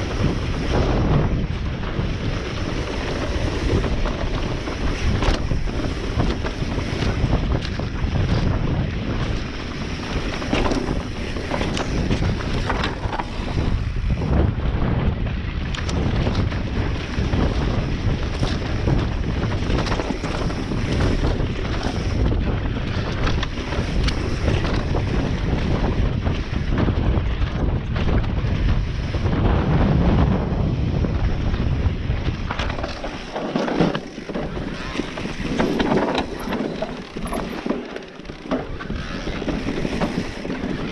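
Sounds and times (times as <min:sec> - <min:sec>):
bike knocks and rattles: 0:00.0 - 0:40.9
wind rushing over microphone: 0:00.0 - 0:40.9.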